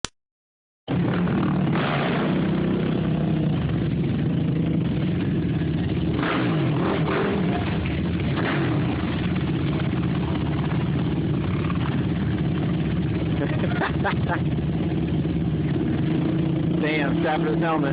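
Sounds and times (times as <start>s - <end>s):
engine idling: 0.9s - 17.9s.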